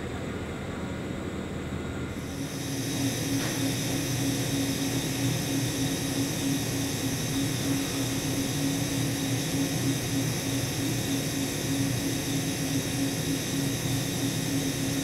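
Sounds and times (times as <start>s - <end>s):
electric train equipment humming: 2.1s - 15.0s.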